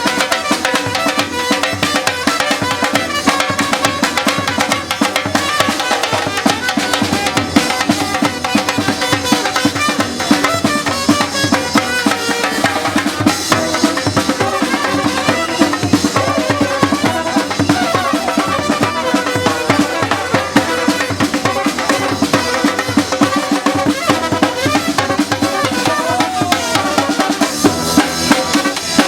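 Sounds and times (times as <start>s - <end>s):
music with drums and percussion: 0.0s - 29.0s.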